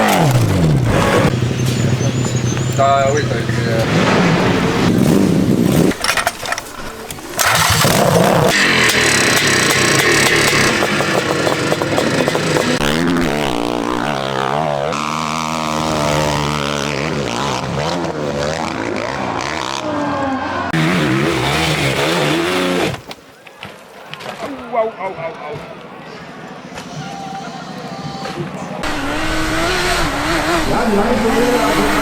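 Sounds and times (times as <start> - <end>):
dirt bike engines revving: 0.0 - 23.2, 25.5 - 32.0.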